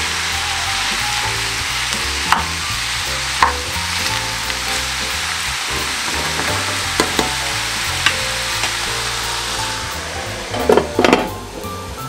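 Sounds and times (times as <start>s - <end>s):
background music: 0.0s - 12.0s
food sizzling in a pan: 0.0s - 12.0s.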